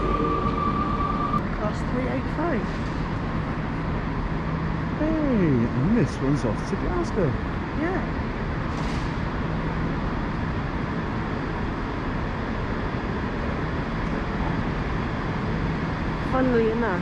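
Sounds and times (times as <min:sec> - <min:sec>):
electric train rumble with hum: 0:00.0 - 0:17.0.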